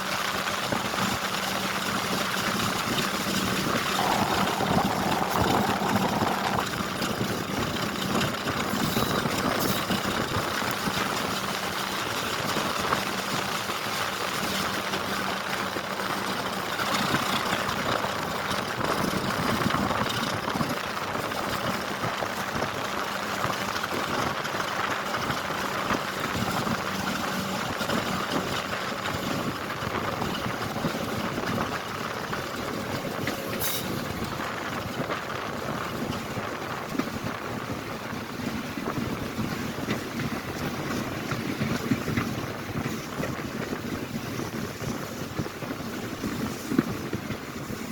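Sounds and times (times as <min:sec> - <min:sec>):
train rumble and hum: 0:00.0 - 0:47.9.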